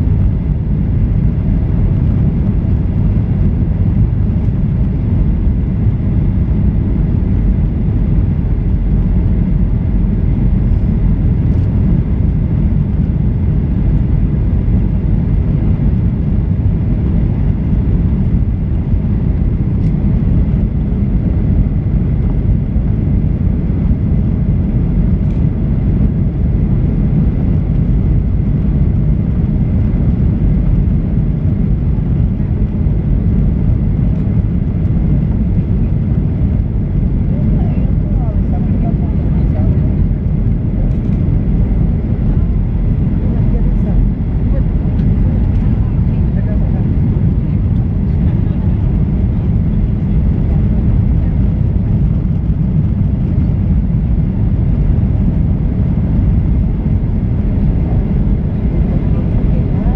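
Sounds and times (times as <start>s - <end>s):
air rushing along fuselage: 0.0s - 59.9s
jet engine rumble inside cabin: 0.0s - 59.9s.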